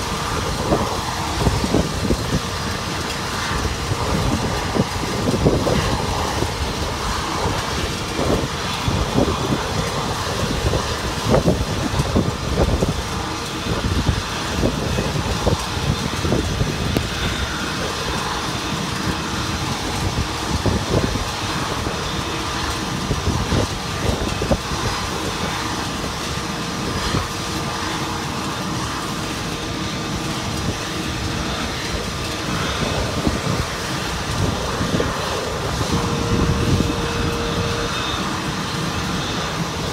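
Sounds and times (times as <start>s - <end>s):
constant whine: 0.0s - 39.9s
jet aircraft noise: 0.0s - 39.9s
wind buffeting microphone: 0.0s - 39.9s.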